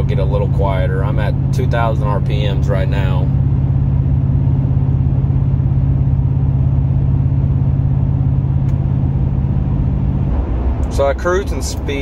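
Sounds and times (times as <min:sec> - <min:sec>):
road noise: 0:00.0 - 0:12.0
truck engine humming: 0:00.0 - 0:12.0.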